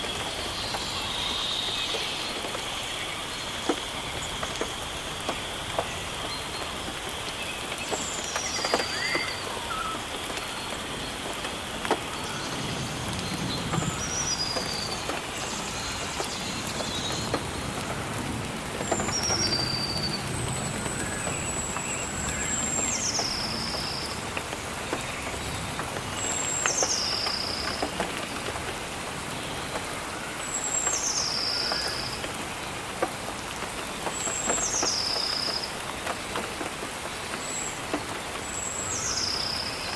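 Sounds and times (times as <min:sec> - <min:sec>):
rain falling on foliage: 0:00.0 - 0:39.9
water drips: 0:00.0 - 0:39.9.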